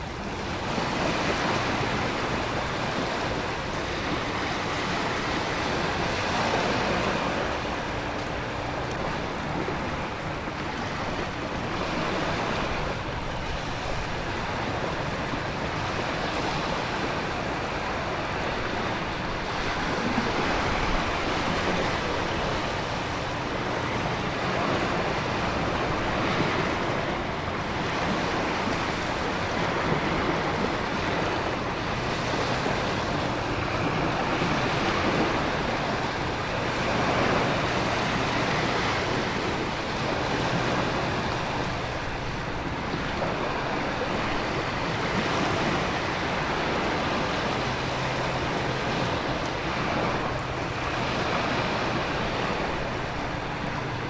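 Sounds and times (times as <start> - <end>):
ocean surf: 0.0 - 54.0
wind: 0.0 - 54.0.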